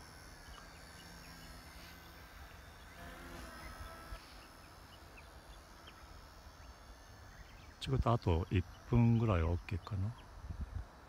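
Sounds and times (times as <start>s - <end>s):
faint rc helicopter hum: 0.0s - 11.0s
insects chirring: 0.0s - 11.0s.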